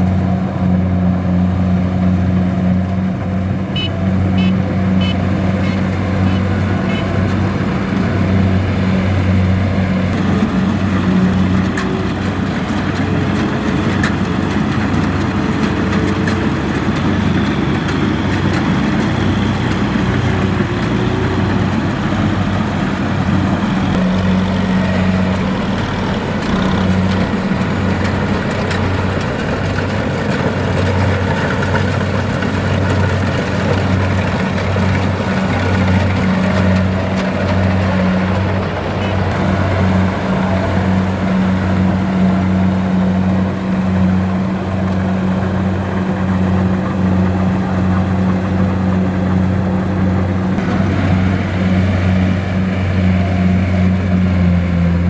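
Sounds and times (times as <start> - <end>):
diesel engine hum: 0.0 - 55.0
harvester machinery clattering: 0.1 - 55.0.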